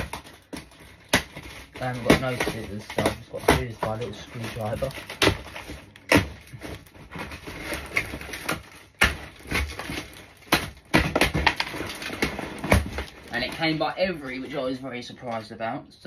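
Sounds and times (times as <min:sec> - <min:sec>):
cardboard and tape ripping: 0:00.0 - 0:14.7
cardboard rustling: 0:00.0 - 0:14.8.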